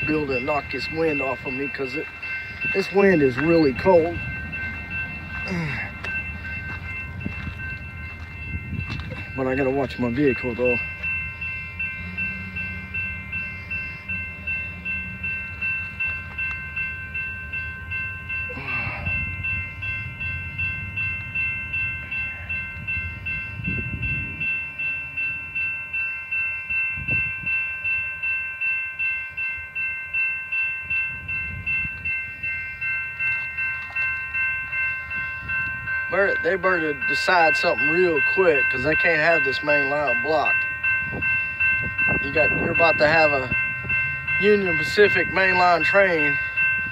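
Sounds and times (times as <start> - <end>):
passing train rumble: 0.0 - 46.9
railroad crossing bell ringing: 0.0 - 46.9
wind: 0.0 - 46.9.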